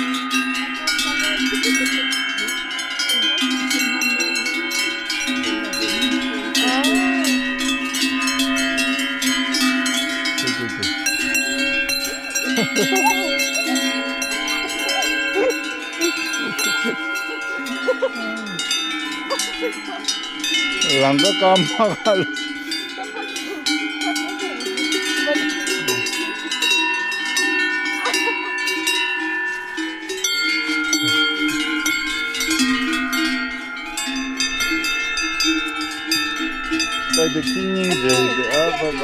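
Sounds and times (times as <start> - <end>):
metal bells clanking and ringing: 0.0 - 39.0.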